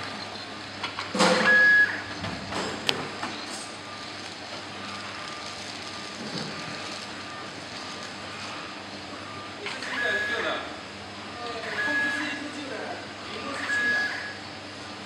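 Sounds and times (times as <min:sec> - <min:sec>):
filling machine hum and hiss: 0:00.0 - 0:15.0.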